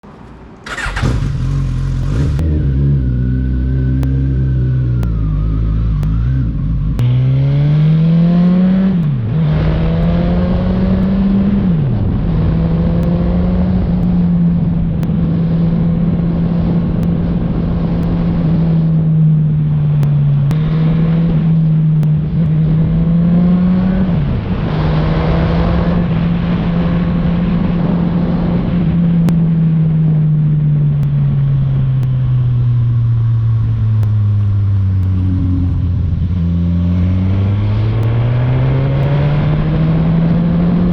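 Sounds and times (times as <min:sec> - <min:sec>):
motorcycle engine shifting gears: 0:00.2 - 0:40.9.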